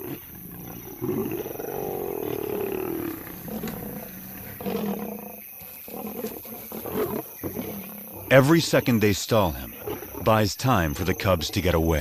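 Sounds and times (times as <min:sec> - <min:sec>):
lions snarling and roaring: 0:00.0 - 0:12.0.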